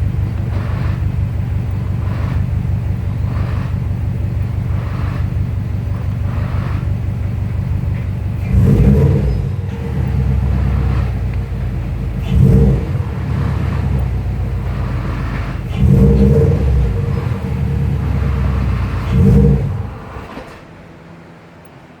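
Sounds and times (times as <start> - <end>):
clutch rattle: 0.0 - 21.0
car engine running: 0.0 - 22.0.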